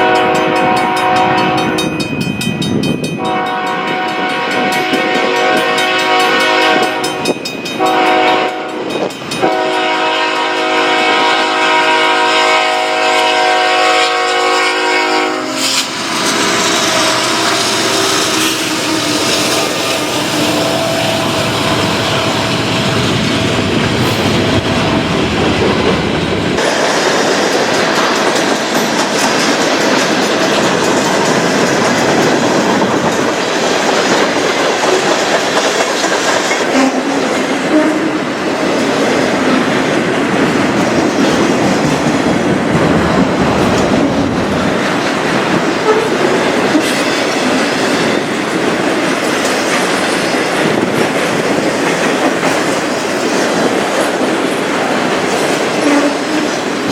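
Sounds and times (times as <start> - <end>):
deep train rumble: 0.0 - 56.9
train wheels clattering on rails: 0.0 - 56.9.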